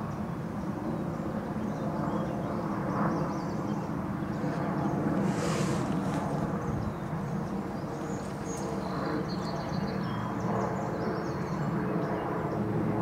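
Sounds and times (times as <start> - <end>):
distant traffic hum: 0.0 - 11.7.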